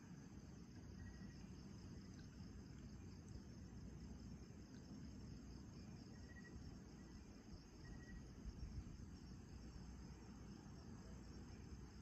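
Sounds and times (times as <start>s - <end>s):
crickets and night insects: 0.0s - 12.0s.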